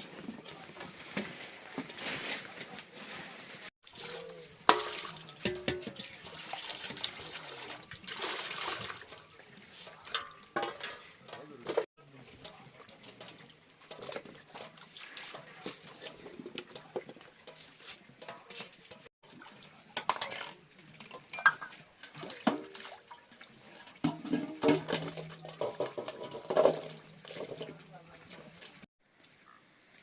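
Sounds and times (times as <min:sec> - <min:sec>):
water running and splashing: 0:03.8 - 0:29.6
metal pots and utensils clattering: 0:03.9 - 0:28.9.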